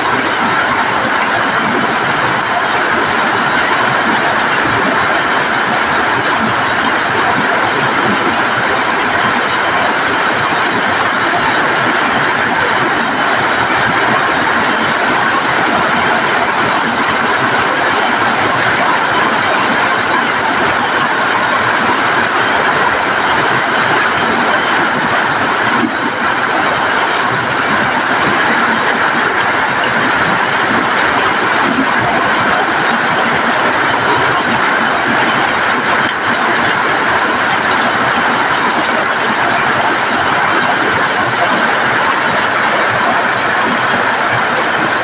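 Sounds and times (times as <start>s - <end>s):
heavy rain on metal roofs: 0.0s - 45.0s.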